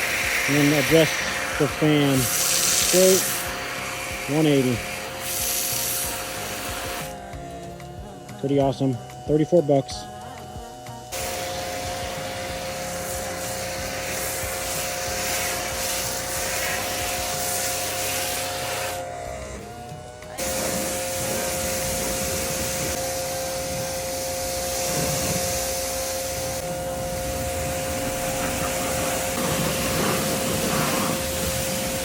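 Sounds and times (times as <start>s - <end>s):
water spraying from nozzle: 0.0s - 7.3s, 11.1s - 32.0s
pressure washer motor whine: 0.0s - 32.0s.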